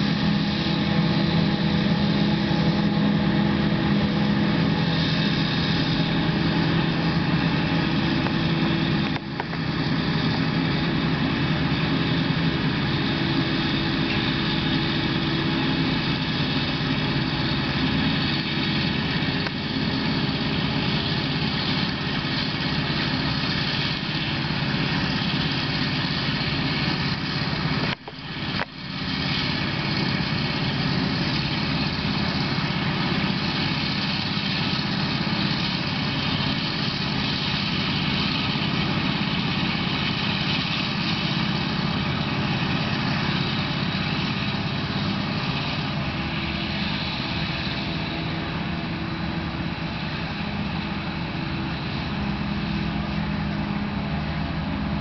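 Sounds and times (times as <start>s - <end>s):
forage harvester machinery drone: 0.0s - 55.0s.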